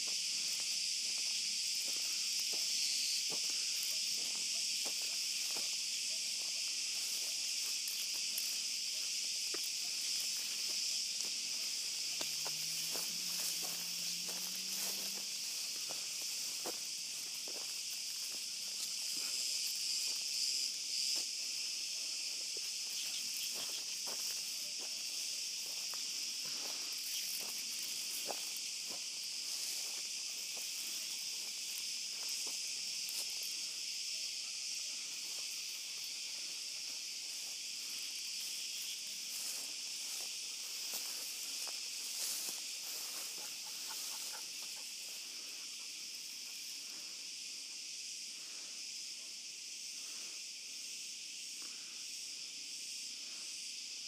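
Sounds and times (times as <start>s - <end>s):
footsteps in dry vegetation: 0.0s - 47.0s
cicadas singing: 0.0s - 54.0s.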